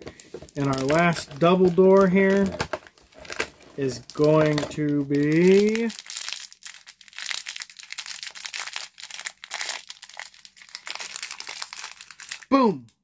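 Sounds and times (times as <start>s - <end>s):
plastic wrapper crinkling and tearing: 0.0s - 12.6s.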